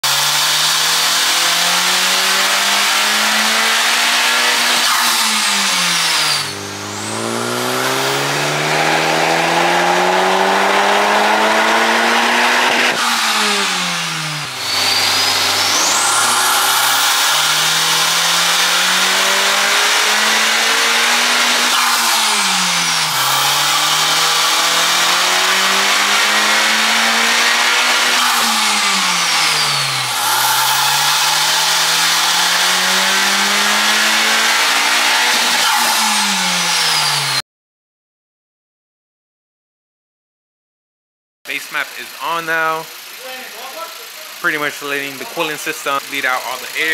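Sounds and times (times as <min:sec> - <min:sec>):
car engine accelerating hard: 0:00.0 - 0:37.4, 0:41.6 - 0:46.9.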